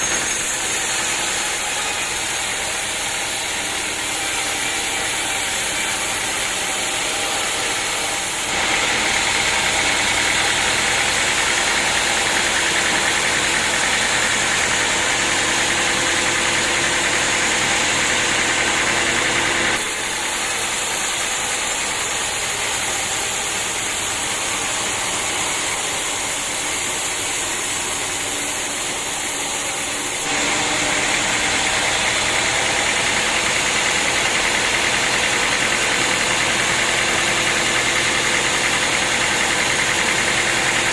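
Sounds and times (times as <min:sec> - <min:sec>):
sawmill sawing wood: 0:00.0 - 0:40.9.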